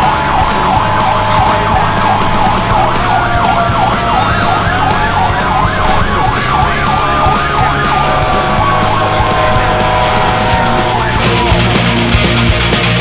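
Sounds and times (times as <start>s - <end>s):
siren yelping: 0.0s - 12.0s
steady rising siren tone: 0.0s - 12.6s
vehicle engine hum: 0.0s - 13.0s.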